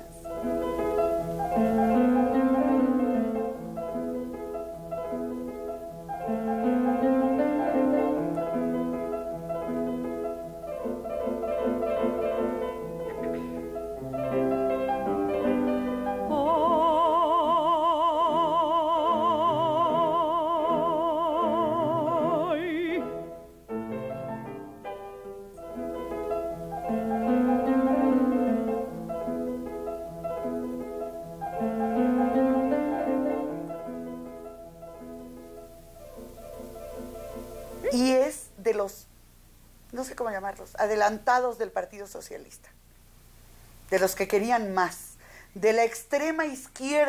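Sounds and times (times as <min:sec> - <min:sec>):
classical instrumental accompaniment: 0:00.0 - 0:38.0.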